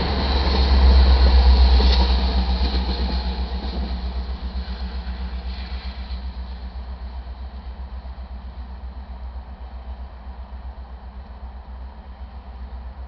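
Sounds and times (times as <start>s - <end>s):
freight train rumble: 0.0s - 13.0s.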